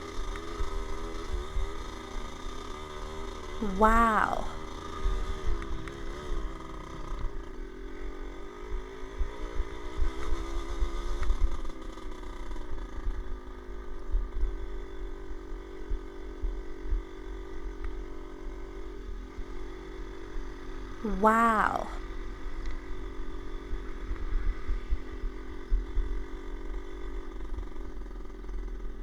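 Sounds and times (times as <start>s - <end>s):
motorcycle engine running: 0.0s - 21.0s, 21.6s - 29.0s.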